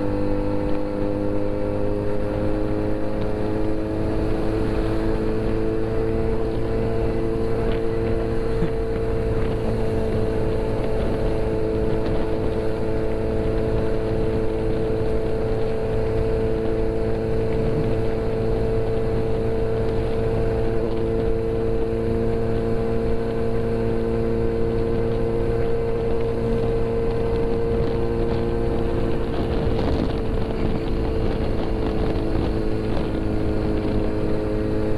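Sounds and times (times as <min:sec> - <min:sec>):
motorcycle engine cruising: 0:00.0 - 0:34.9
rushing wind noise from riding: 0:00.0 - 0:34.9.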